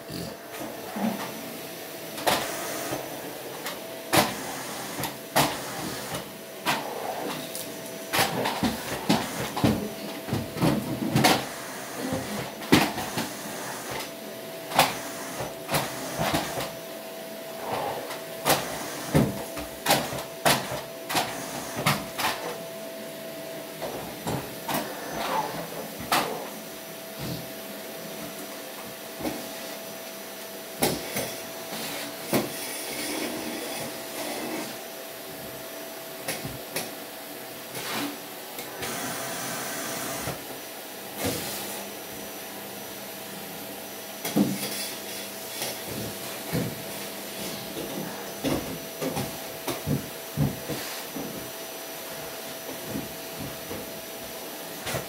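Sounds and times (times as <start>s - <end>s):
vacuum cleaner whining: 0.0s - 55.0s.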